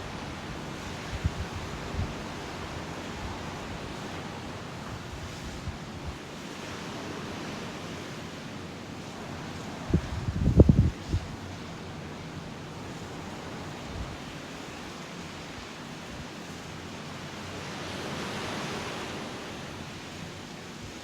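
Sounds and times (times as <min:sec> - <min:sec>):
surf washing onto beach: 0:00.0 - 0:21.0.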